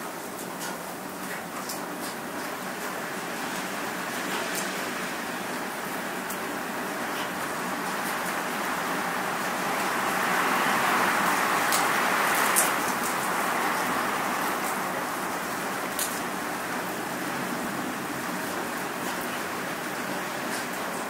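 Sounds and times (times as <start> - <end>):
wind and rain rushing: 0.0 - 21.0.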